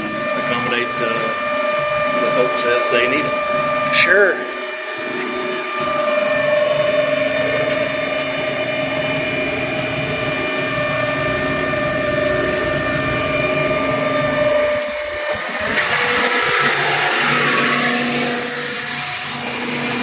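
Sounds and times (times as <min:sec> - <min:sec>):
mixer truck mechanical whine: 0:00.0 - 0:20.0.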